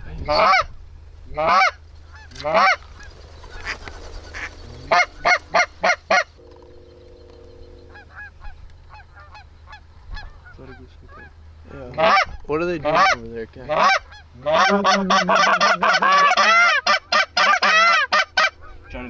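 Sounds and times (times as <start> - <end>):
faint honks of other geese: 0.2 - 19.0
goose honking: 0.3 - 19.0.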